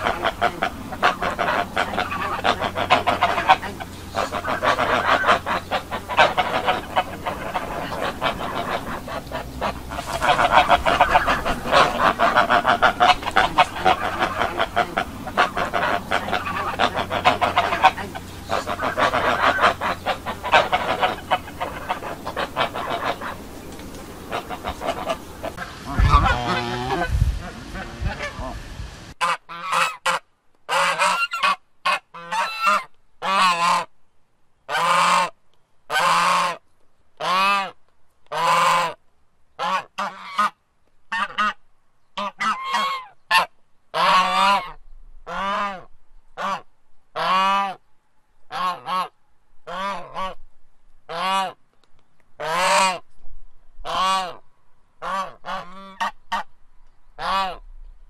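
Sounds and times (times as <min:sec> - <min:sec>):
geese honking: 0:00.0 - 0:28.6, 0:29.2 - 0:33.9, 0:34.7 - 0:35.3, 0:35.9 - 0:36.6, 0:37.2 - 0:39.0, 0:39.6 - 0:41.6, 0:42.2 - 0:46.6, 0:47.2 - 0:47.8, 0:48.5 - 0:49.1, 0:49.7 - 0:50.4, 0:51.1 - 0:51.6, 0:52.4 - 0:53.0, 0:53.9 - 0:54.4, 0:55.0 - 0:56.5, 0:57.2 - 0:57.6
background noise: 0:00.0 - 0:58.0.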